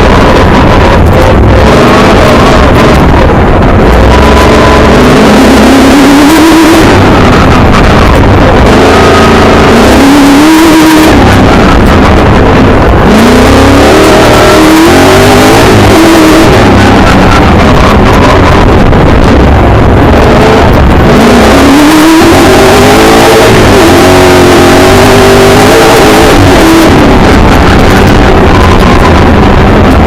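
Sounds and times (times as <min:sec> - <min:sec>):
heavy noise wash: 0:00.0 - 0:30.0
race car engine revving: 0:00.0 - 0:30.0.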